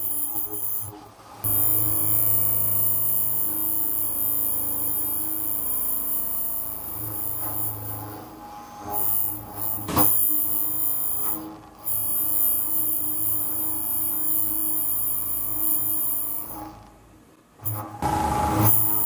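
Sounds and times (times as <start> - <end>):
milling machine whine: 0.0 - 19.0.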